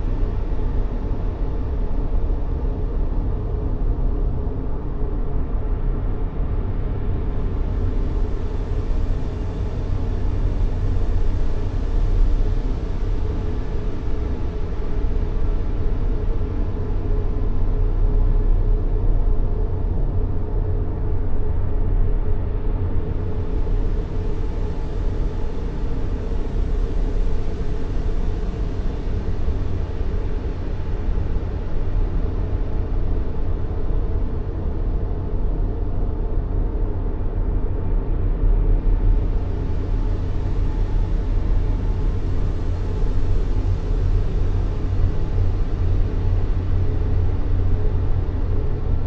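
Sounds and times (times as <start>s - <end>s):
white noise rumble and hiss: 0.0s - 49.0s.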